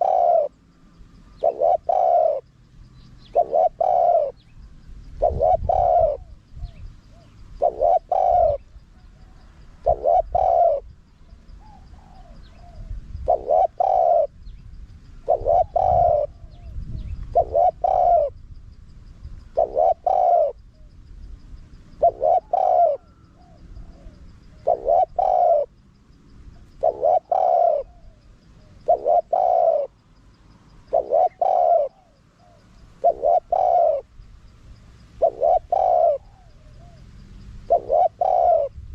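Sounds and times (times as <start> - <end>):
dove cooing: 0.0 - 18.4, 19.4 - 21.0, 21.9 - 25.8, 26.5 - 30.0, 30.7 - 34.2, 35.1 - 38.9.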